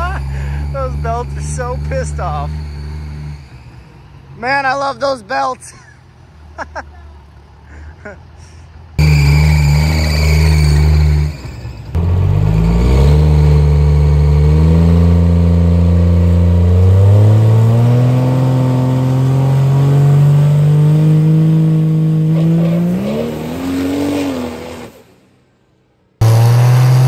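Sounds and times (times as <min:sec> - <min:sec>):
diesel truck engine at full throttle: 0:00.0 - 0:25.1, 0:26.2 - 0:27.0.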